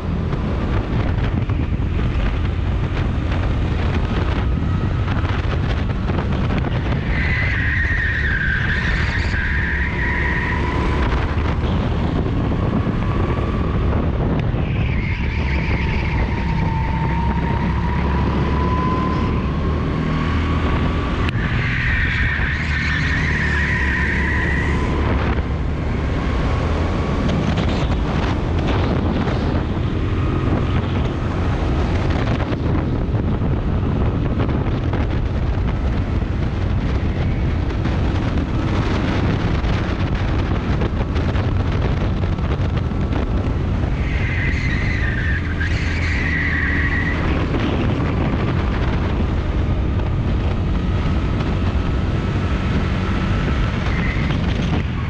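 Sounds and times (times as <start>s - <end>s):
other kart engines: 0.0s - 55.0s
wind buffeting microphone: 0.0s - 55.0s.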